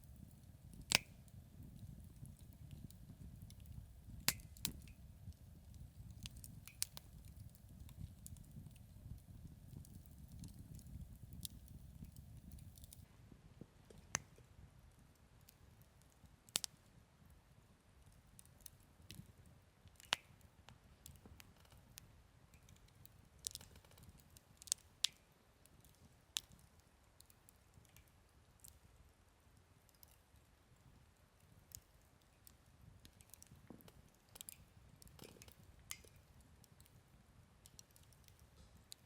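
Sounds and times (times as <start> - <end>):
campfire crackling and popping: 0.0 - 17.3, 18.0 - 39.0.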